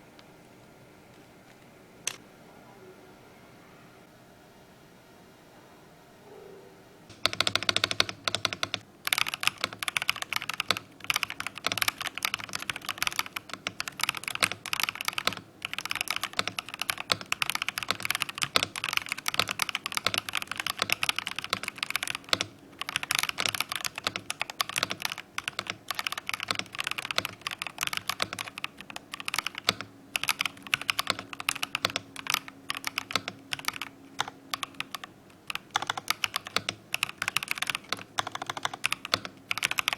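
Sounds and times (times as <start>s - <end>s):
mechanical keyboard typing: 7.1s - 39.9s.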